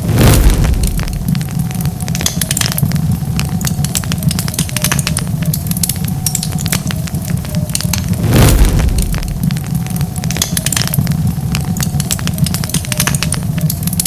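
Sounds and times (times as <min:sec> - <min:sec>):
low rumble of flame: 0:00.0 - 0:14.0
wood fire crackling: 0:00.0 - 0:14.0.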